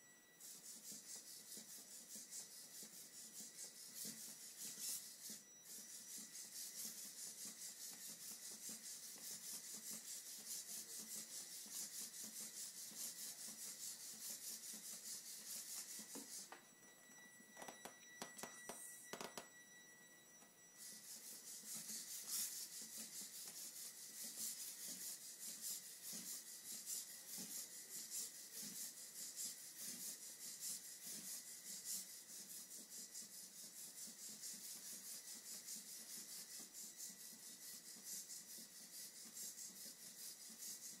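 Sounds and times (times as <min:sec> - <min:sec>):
faint high whine: 0:00.0 - 0:41.0.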